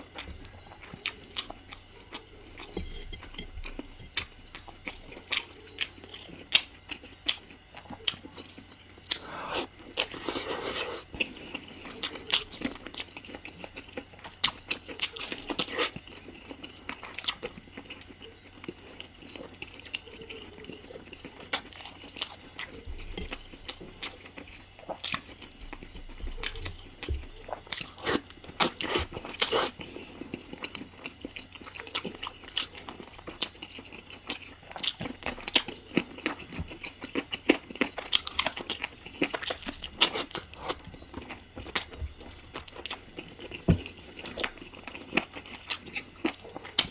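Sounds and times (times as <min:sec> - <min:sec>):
close chewing and crunching: 0:00.0 - 0:46.9.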